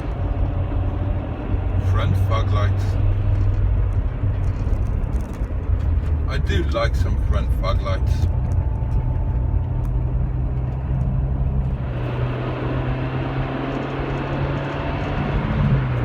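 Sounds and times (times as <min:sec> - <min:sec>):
car engine accelerating: 0:00.0 - 0:16.0
road noise: 0:00.0 - 0:16.0
wind noise: 0:02.5 - 0:16.0.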